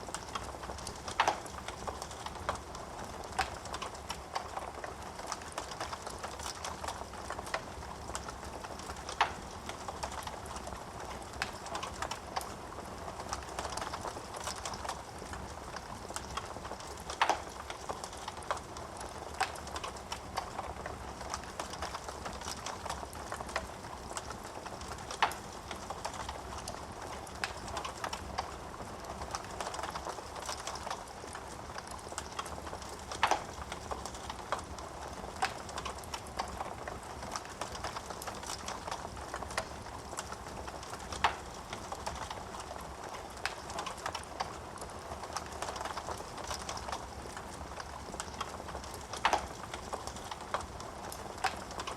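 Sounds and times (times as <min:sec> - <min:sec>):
fire popping: 0:00.0 - 0:51.9
wood fire crackling: 0:00.0 - 0:51.9.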